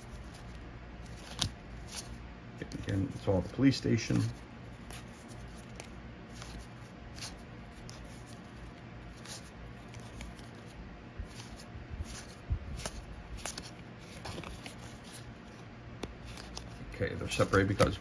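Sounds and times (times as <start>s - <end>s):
cards flicking and sliding: 0.0s - 3.4s, 4.1s - 18.0s.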